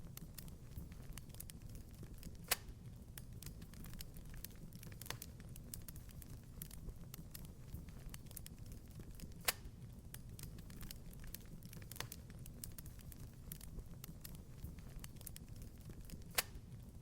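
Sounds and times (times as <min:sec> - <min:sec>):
fire crackling in a fireplace: 0:00.0 - 0:17.0
low fire rumble: 0:00.0 - 0:17.0.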